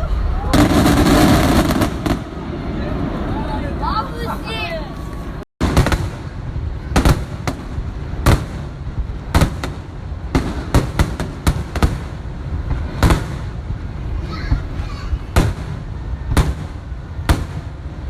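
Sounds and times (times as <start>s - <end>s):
continuous low rumble: 0.0s - 18.0s
fireworks bangs: 0.0s - 18.0s.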